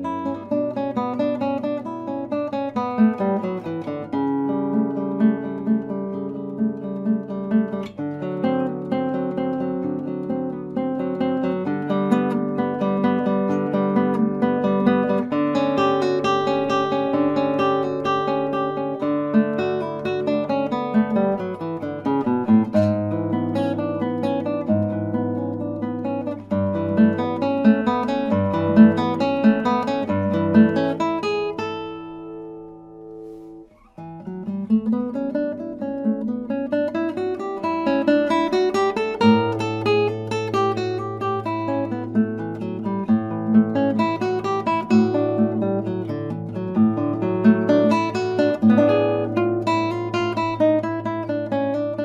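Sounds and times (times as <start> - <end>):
classical guitar playing: 0.0 - 52.0.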